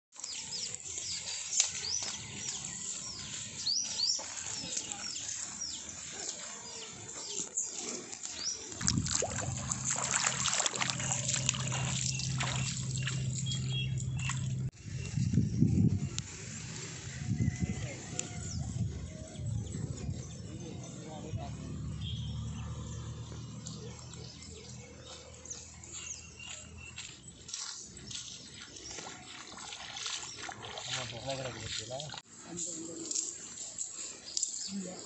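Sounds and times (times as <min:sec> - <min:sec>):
leaves rustling underfoot: 0:00.1 - 0:18.6, 0:24.4 - 0:35.0
birds chirping: 0:00.1 - 0:35.0.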